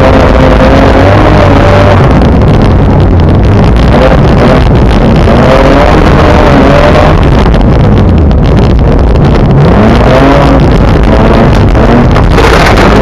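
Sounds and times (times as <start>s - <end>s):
car engine revving: 0.0s - 13.0s
road noise on gravel: 0.0s - 13.0s.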